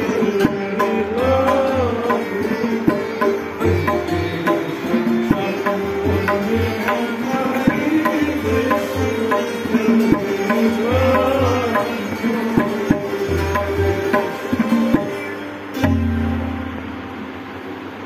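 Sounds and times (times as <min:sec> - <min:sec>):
santoor struck with hammers: 0:00.0 - 0:17.2
tabla playing a rhythm: 0:00.0 - 0:18.0.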